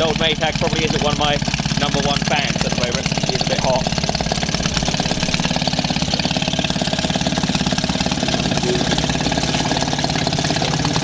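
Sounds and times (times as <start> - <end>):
two-stroke engine running: 0.0 - 11.0.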